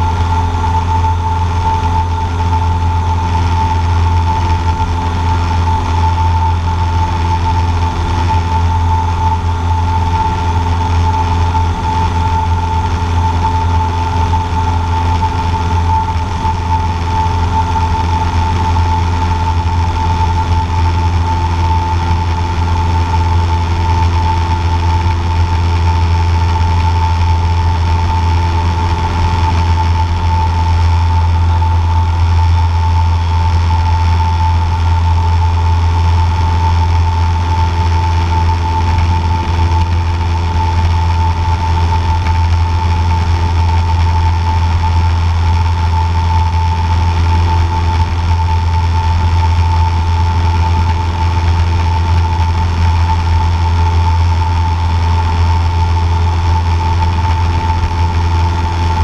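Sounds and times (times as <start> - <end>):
airplane engine droning in cabin: 0.0 - 59.0
high whine: 0.0 - 59.0.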